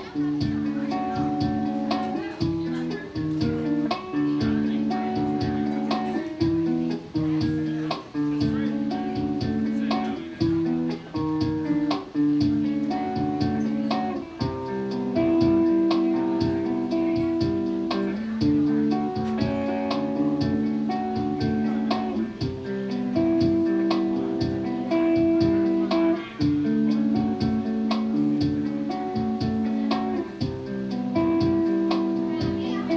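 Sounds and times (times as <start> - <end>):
guitar strumming chords: 0.0 - 32.9.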